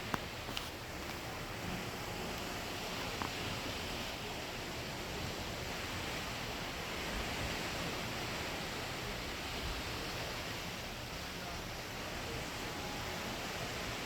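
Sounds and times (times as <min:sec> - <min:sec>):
sea noise: 0:00.0 - 0:14.0.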